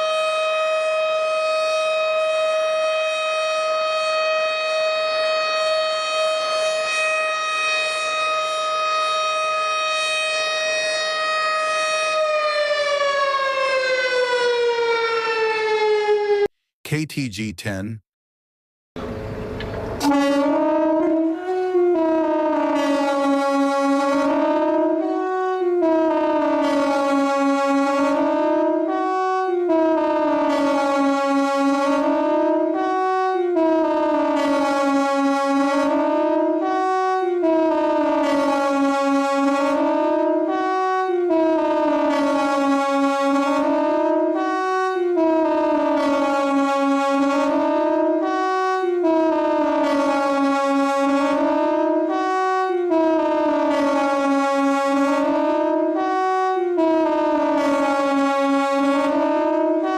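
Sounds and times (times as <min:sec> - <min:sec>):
warning siren wailing: 0:00.0 - 0:16.5, 0:20.0 - 0:59.9.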